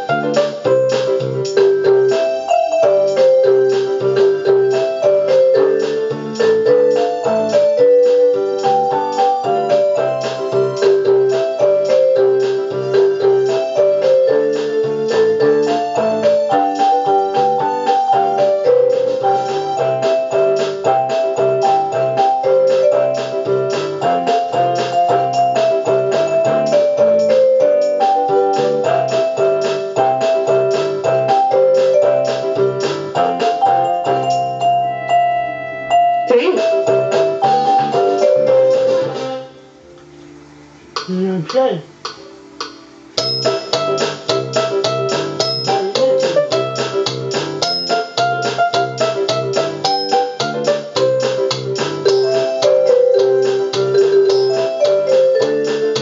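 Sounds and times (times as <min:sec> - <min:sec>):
electronic keyboard melody: 0:00.0 - 0:41.2, 0:41.9 - 0:56.0.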